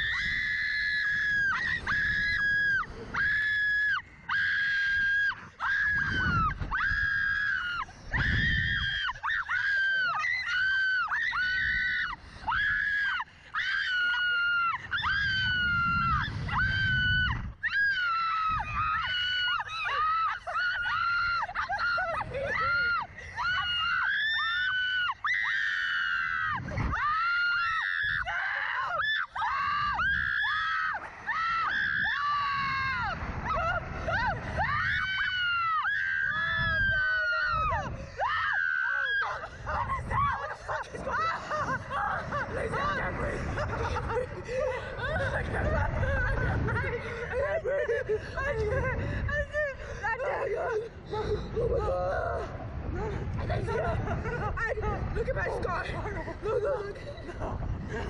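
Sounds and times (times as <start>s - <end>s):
people screaming: 0.0s - 55.9s.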